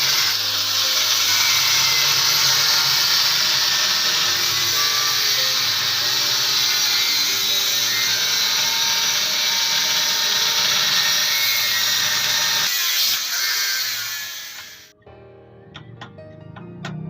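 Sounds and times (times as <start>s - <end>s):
electric power tool running: 0.0s - 15.0s.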